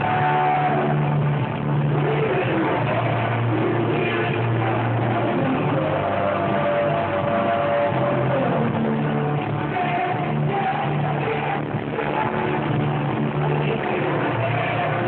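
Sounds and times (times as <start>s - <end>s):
live rock band with singer: 0.0s - 15.0s.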